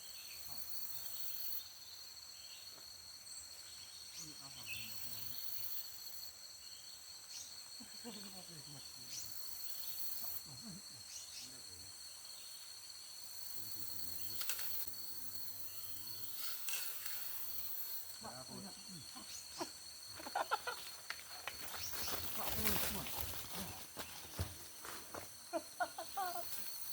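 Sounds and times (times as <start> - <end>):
insect chorus drone: 0.0 - 26.9.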